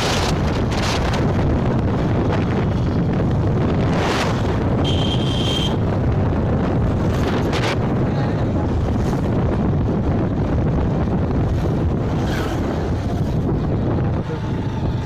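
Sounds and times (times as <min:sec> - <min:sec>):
motorbike ride rumble: 0:00.0 - 0:15.0
wind buffeting microphone: 0:00.0 - 0:15.0.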